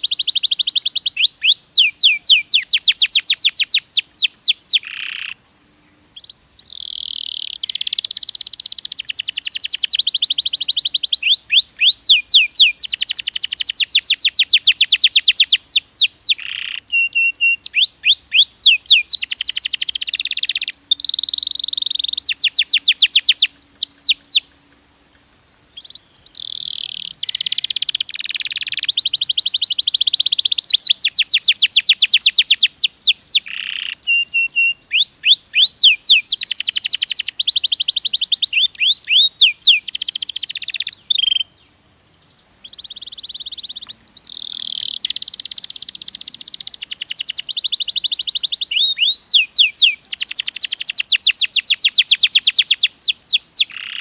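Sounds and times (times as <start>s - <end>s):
canary singing trills: 0.0s - 5.4s, 6.1s - 24.5s, 25.7s - 54.0s.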